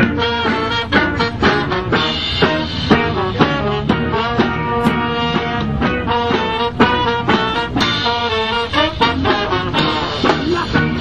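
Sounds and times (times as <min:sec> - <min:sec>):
band playing up-tempo music: 0:00.0 - 0:11.0
brass horns playing tune: 0:00.0 - 0:11.0
drum kit: 0:00.0 - 0:11.0.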